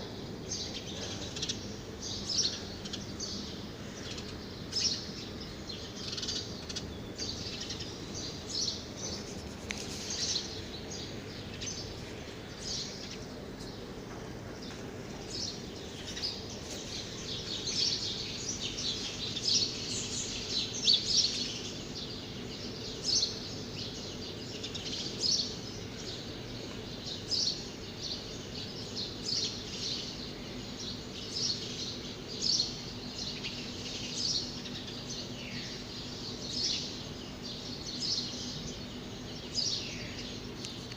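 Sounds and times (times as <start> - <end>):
birds chirping: 0.0 - 40.9
steady low hum: 0.0 - 40.9.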